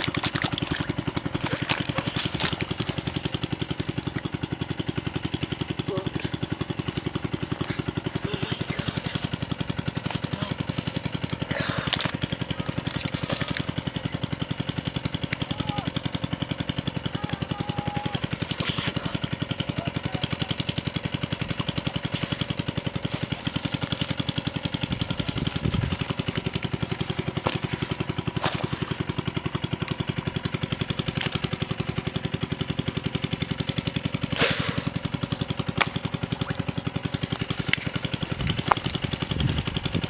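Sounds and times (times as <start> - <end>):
small engine thumping: 0.0 - 40.0.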